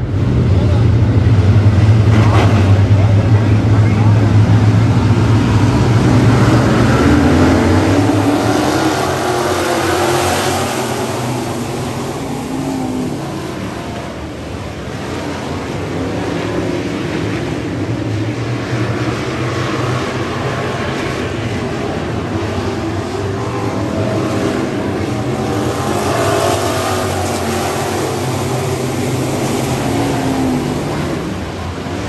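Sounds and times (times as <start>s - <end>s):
stock car engines revving: 0.0s - 32.0s.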